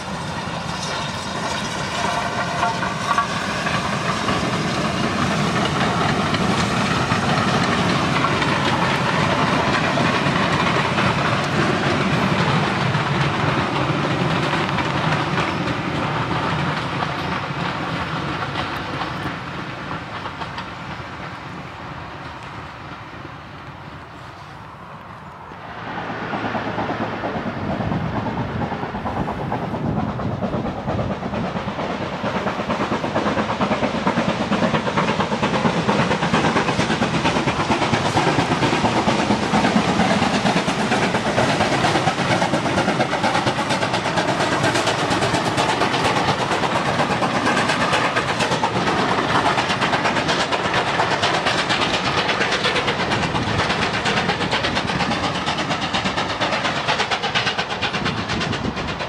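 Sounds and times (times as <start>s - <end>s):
steam train passing: 0.0s - 59.0s.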